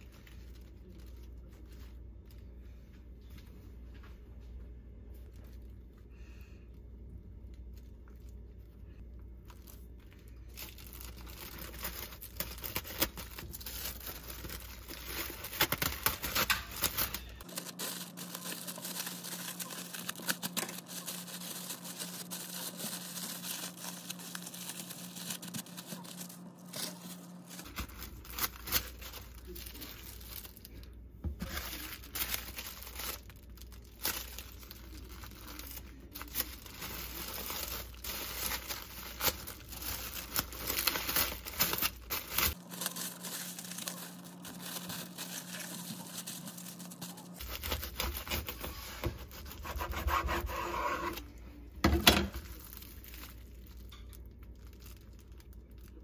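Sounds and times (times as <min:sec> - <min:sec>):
plastic wrap crinkling: 0:00.0 - 0:02.7, 0:05.1 - 0:06.4, 0:07.1 - 0:56.0.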